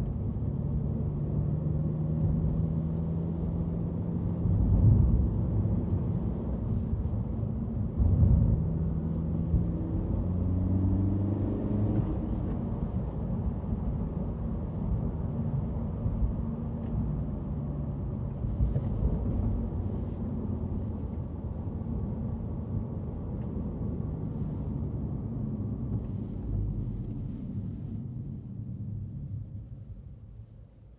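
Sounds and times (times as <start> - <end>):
car engine running while driving: 0.0 - 30.9.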